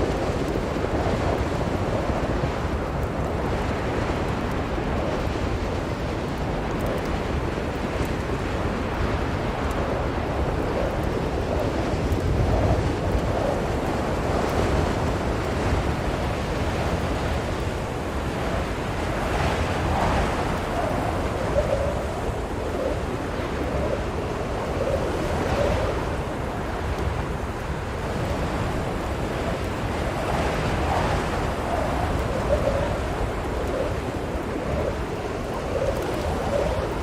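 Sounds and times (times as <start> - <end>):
blizzard wind gusting: 0.0 - 37.0.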